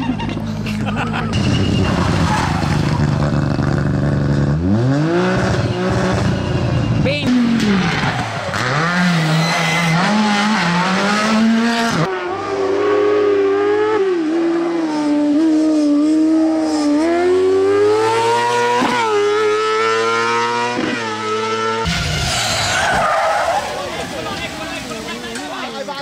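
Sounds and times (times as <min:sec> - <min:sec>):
rally car engine revving: 0:00.0 - 0:25.3.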